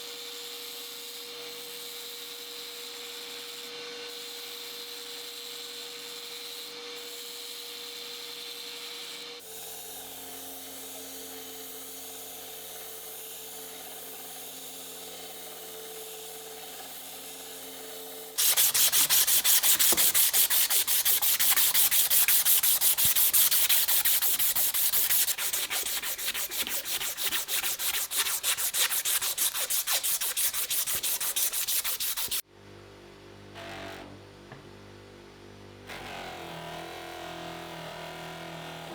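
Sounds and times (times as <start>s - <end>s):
sanding a metal blade: 0.0s - 32.4s.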